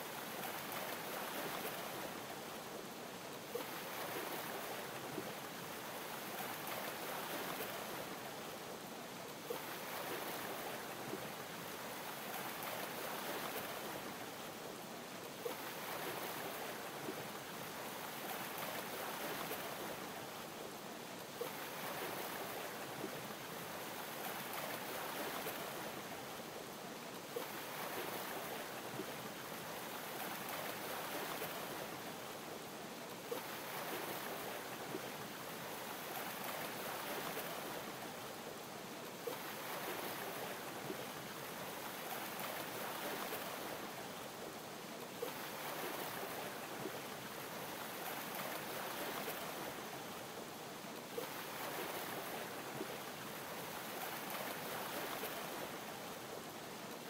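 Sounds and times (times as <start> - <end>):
ocean waves lapping: 3.5 - 8.2, 9.4 - 14.3, 15.4 - 20.2, 21.4 - 26.3, 27.1 - 32.6, 33.2 - 38.4, 39.0 - 44.2, 45.1 - 50.2, 51.1 - 56.4.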